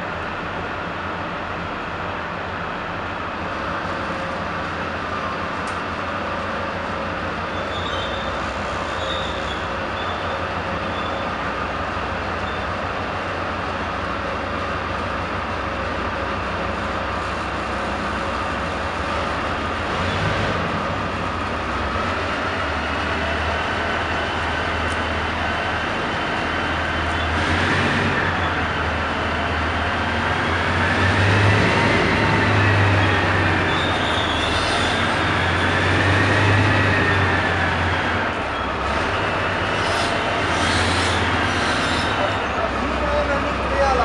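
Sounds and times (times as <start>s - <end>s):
large diesel engine idling: 0.0s - 44.0s.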